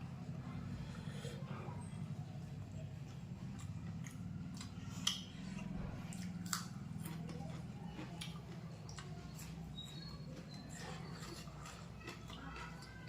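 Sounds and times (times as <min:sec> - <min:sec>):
steady low hum: 0:00.0 - 0:12.8
chewing food: 0:01.9 - 0:13.0.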